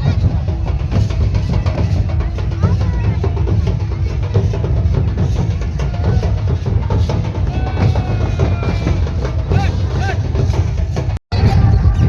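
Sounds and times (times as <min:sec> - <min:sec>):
loud music with dense drumming: 0:00.0 - 0:12.0.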